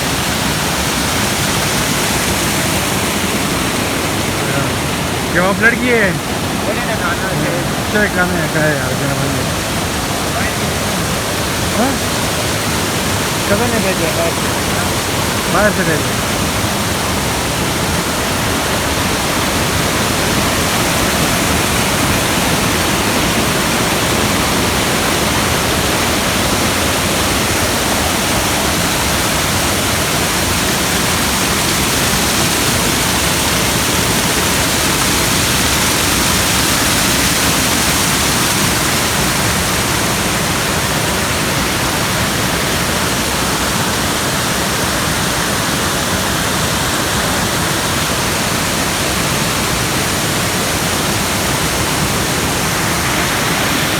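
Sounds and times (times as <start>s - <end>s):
waterfall rushing and splashing: 0.0s - 53.9s.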